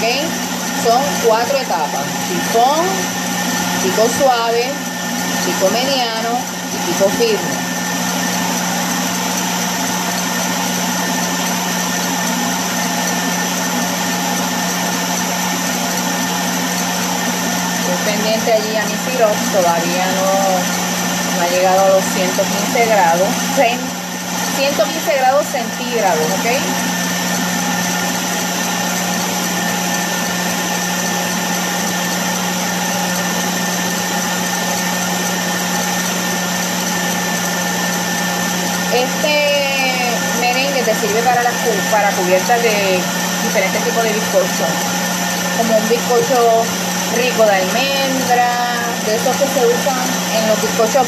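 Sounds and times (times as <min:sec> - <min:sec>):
stand mixer motor hum: 0:00.0 - 0:51.0.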